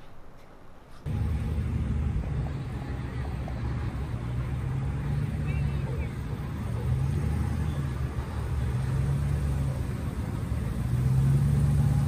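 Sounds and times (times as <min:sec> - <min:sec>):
engine humming at low speed: 0:01.0 - 0:12.0.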